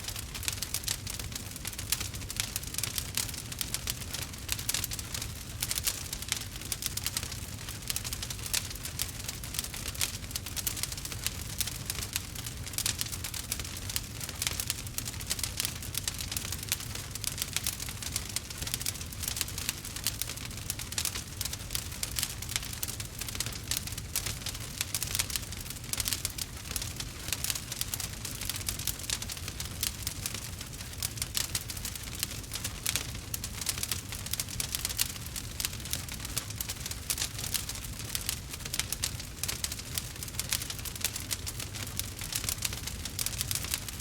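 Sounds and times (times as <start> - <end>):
burning wood crackling: 0.0 - 44.0.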